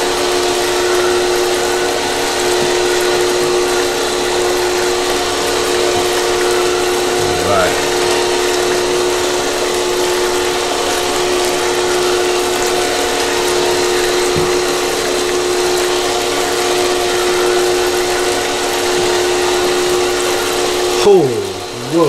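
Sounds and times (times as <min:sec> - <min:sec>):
pump motor electric hum: 0:00.0 - 0:22.0
water spraying and splashing: 0:00.0 - 0:22.0.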